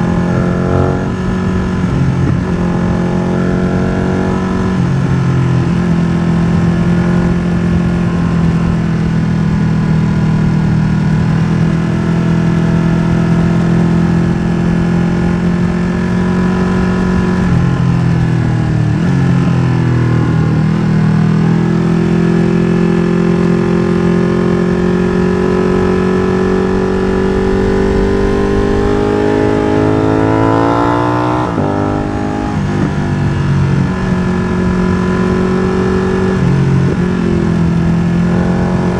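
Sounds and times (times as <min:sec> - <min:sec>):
motorcycle engine running hard: 0:00.0 - 0:38.9.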